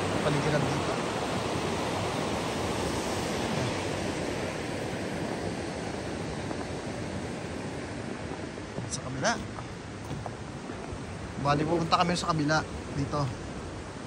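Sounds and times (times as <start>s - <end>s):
river rapids rushing over rock: 0.0s - 14.0s.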